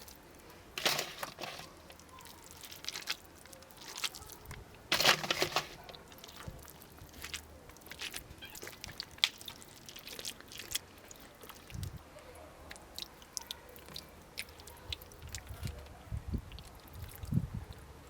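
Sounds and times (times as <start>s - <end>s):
person chewing crisp food: 0.0s - 12.0s, 12.7s - 15.8s.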